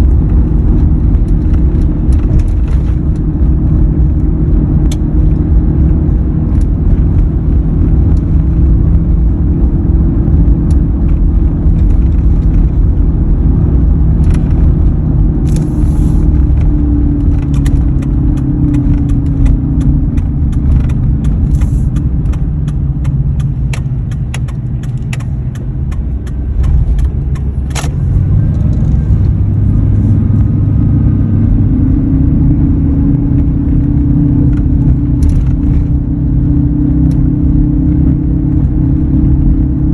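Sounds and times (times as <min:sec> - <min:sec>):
steady hum: 0:00.0 - 0:35.0
road and drivetrain rumble: 0:00.0 - 0:39.9.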